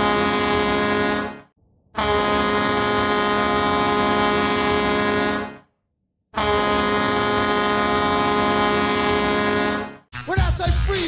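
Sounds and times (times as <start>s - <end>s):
goal horn blasts: 0.0s - 5.7s, 6.4s - 10.0s.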